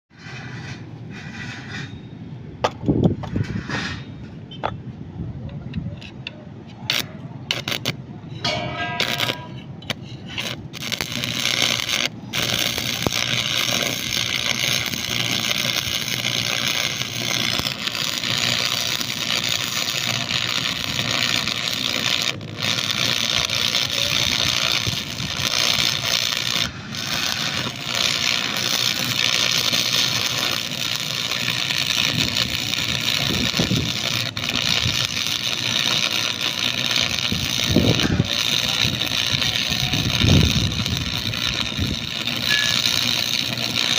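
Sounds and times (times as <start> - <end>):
welding arc crackling and hissing: 6.9 - 43.9.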